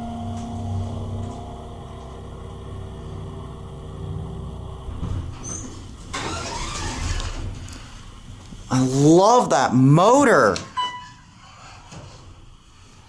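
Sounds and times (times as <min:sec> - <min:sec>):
elevator pump motor humming: 0:00.0 - 0:11.4.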